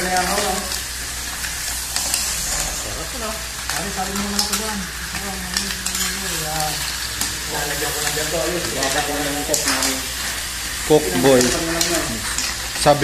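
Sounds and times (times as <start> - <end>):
frying sizzle: 0.0 - 13.0
mussel shells clattering in a wok: 0.0 - 13.0.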